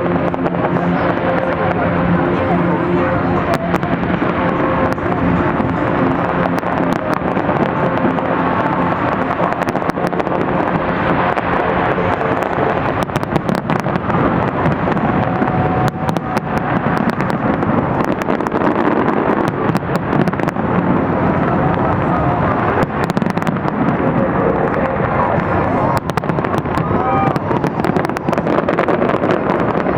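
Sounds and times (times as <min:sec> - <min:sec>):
fireworks banging and crackling: 0:00.0 - 0:29.9.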